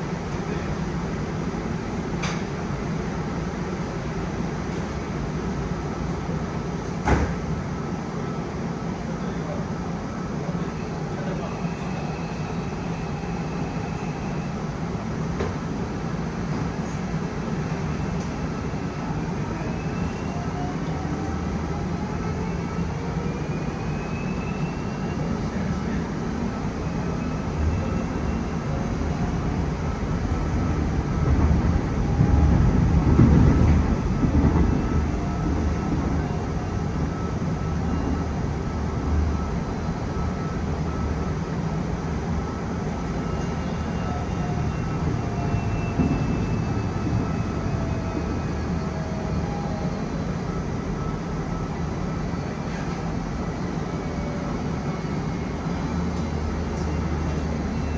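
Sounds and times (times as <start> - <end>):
wheels rumbling on rail: 0.0 - 57.9.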